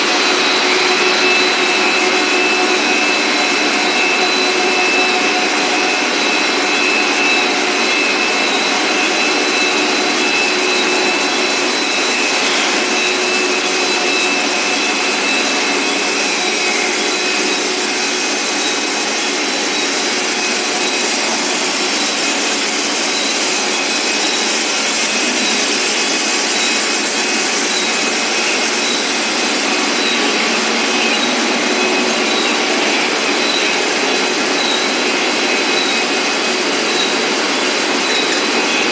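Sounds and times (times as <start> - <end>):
factory machinery running: 0.0 - 38.9
thin whining tones: 0.0 - 38.9.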